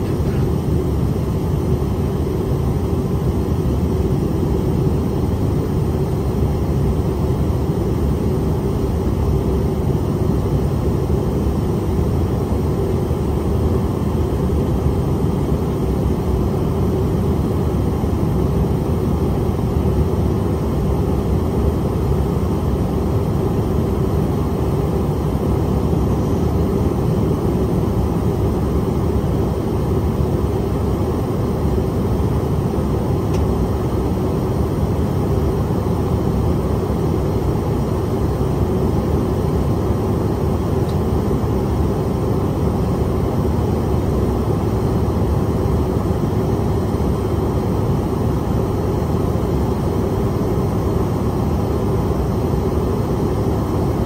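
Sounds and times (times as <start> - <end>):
jet engine drone: 0.0 - 54.0
rush of air in cabin: 0.0 - 54.0.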